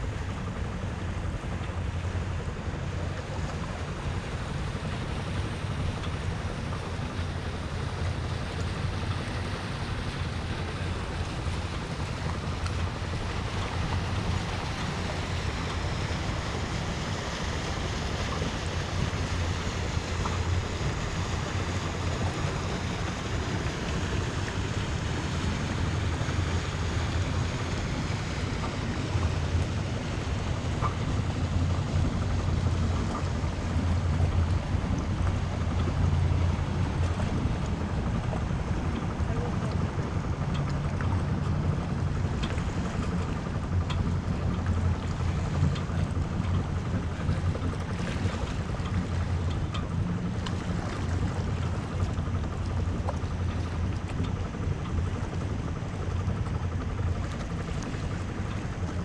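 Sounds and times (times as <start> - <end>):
water washing along hull: 0.0 - 59.0
wind buffeting microphone: 0.0 - 59.0.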